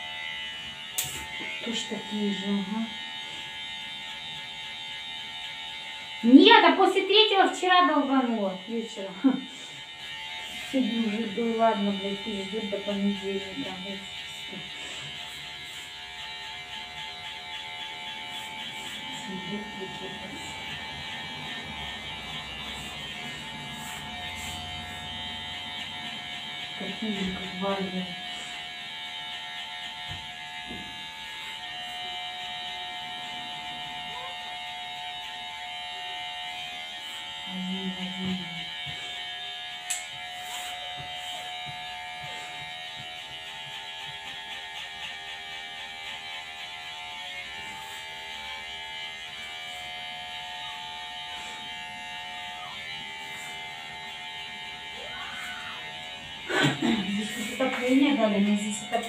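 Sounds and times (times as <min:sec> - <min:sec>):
electric hair clippers buzzing: 0:00.0 - 0:59.0.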